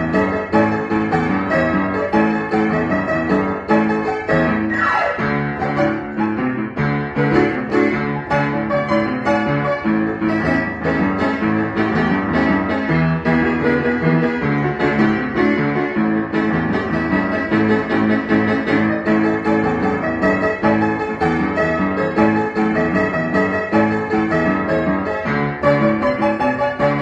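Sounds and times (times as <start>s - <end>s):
piano chords and melody: 0.0s - 27.0s.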